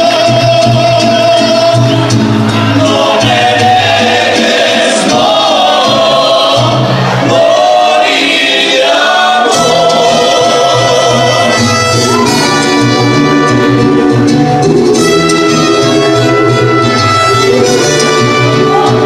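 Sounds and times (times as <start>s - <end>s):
mariachi band playing: 0.0s - 19.0s
voices singing together: 0.0s - 19.0s.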